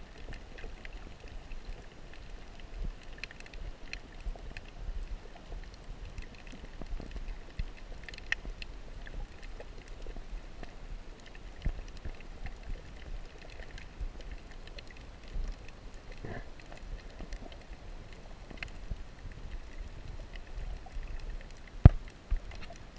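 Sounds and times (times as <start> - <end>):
faint clicks and crackles: 0.0 - 22.9
underwater low rumble: 0.0 - 22.9.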